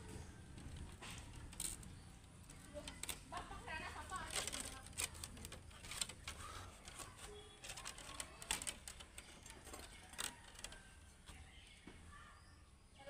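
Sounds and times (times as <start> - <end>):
bamboo strips clicking and tapping: 0.0 - 11.4.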